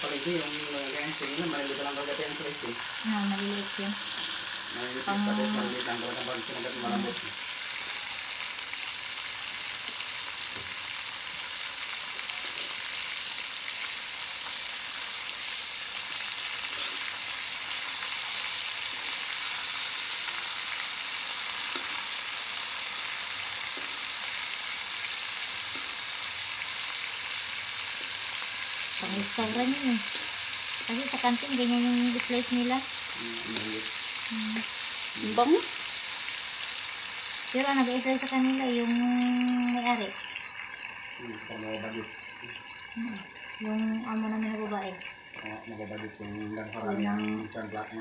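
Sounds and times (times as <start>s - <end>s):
beef sizzling in a wok: 0.0s - 48.0s.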